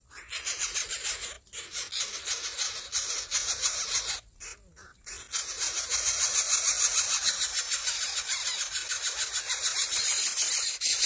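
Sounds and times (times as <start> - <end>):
nestlings begging calls: 0.0 - 11.0.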